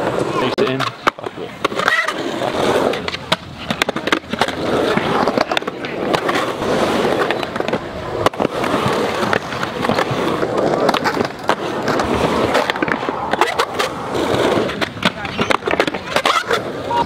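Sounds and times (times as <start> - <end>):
skateboard clacks: 0.0 - 17.0
skateboard wheels rolling on concrete: 0.0 - 17.0.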